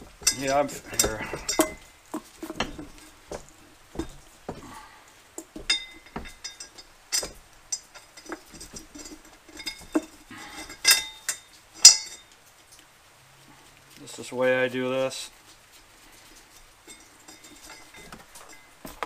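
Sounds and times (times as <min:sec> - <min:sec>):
wire tool clinking on metal rim: 0:00.0 - 0:12.6, 0:16.1 - 0:19.0.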